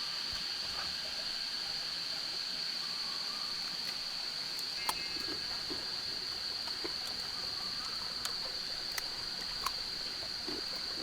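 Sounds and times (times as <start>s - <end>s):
high-pitched insect drone: 1.5s - 10.8s.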